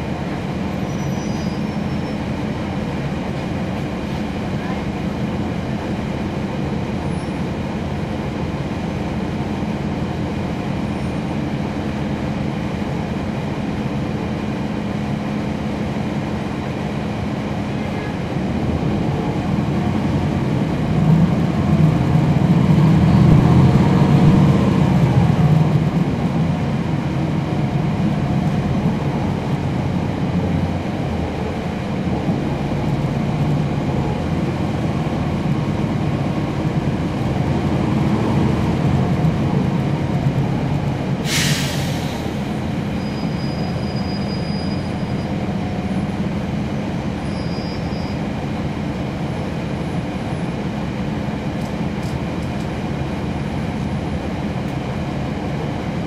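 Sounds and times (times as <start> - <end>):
bus diesel engine humming: 0.0 - 56.0.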